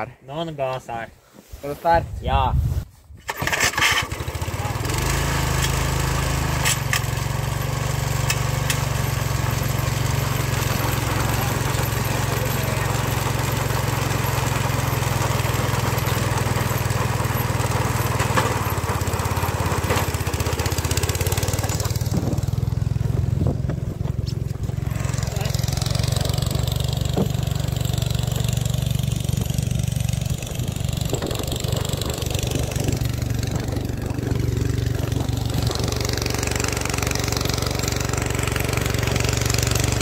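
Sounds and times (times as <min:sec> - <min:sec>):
rototiller engine running: 0:03.3 - 0:40.0.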